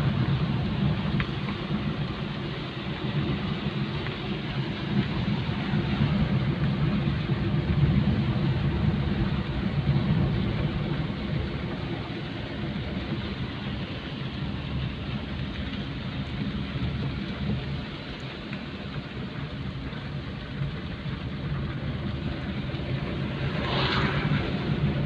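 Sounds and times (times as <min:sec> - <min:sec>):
rain hiss: 0:00.0 - 0:25.0
vehicle engine rumble: 0:00.0 - 0:25.0.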